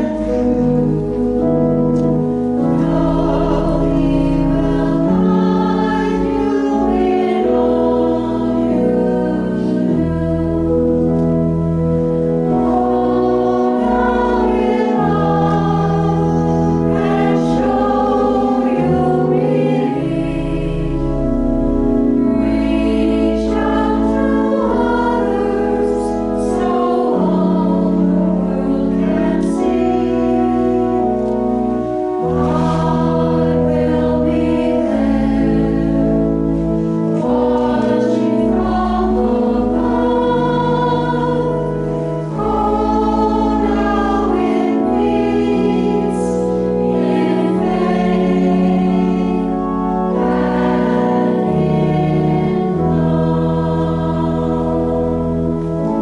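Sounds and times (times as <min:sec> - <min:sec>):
organ chords: 0:00.0 - 0:56.0
voices singing a hymn: 0:00.0 - 0:56.0.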